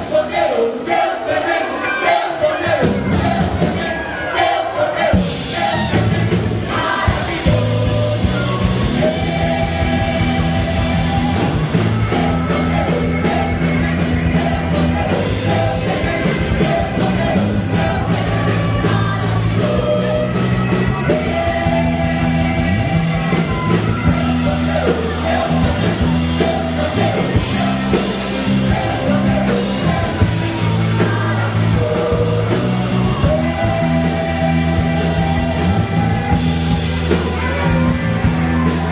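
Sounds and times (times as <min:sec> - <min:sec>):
voices singing held notes: 0:00.0 - 0:38.9
worship band playing: 0:00.0 - 0:38.9.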